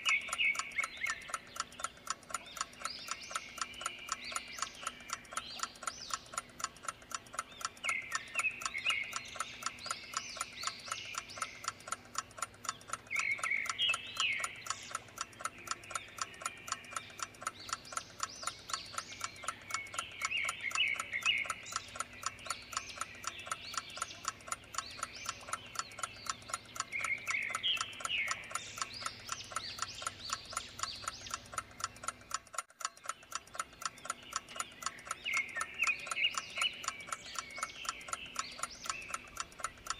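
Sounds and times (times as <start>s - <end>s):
chirping calls: 0.0s - 39.9s
clock ticking fast: 0.0s - 39.9s.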